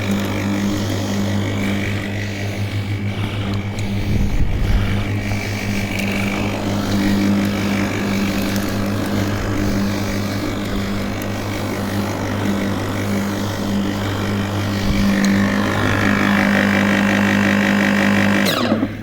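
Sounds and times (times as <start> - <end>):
electric lawnmower humming: 0.0 - 19.0.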